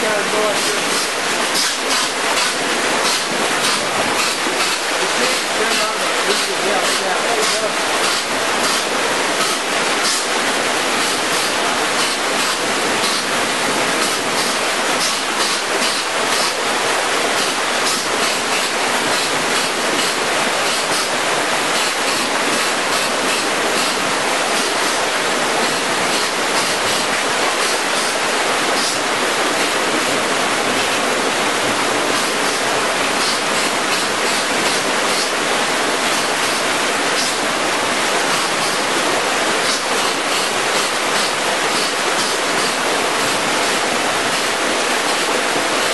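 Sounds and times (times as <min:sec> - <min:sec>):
flood water rushing: 0:00.0 - 0:45.9.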